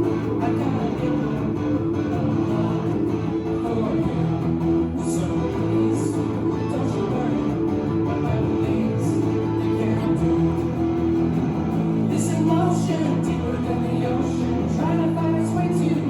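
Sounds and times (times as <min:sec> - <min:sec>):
strummed guitar: 0:00.0 - 0:16.0.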